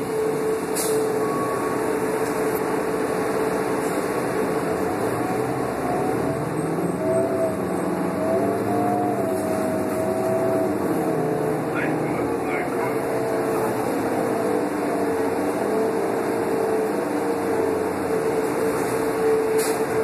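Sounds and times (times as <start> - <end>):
bus diesel engine running: 0.0 - 20.0
drivetrain whine: 0.0 - 20.0
road noise: 0.0 - 20.0.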